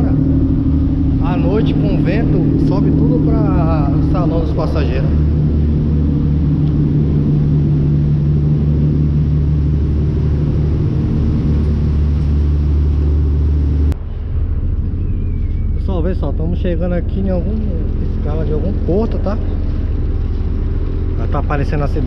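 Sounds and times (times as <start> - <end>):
boat diesel engine drone: 0.0 - 22.0.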